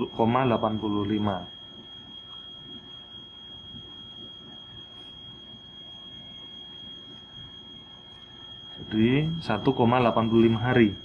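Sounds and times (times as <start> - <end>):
high-pitched electronic whine: 0.0 - 11.0.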